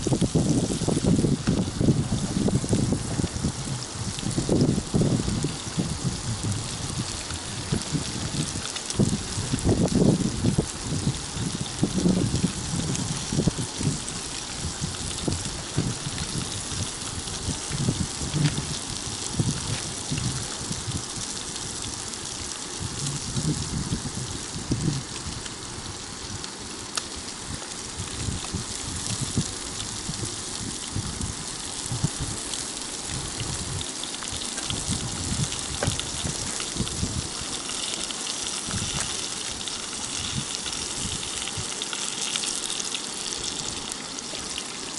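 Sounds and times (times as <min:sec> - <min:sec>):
fish sizzling in hot oil: 0:00.0 - 0:44.9.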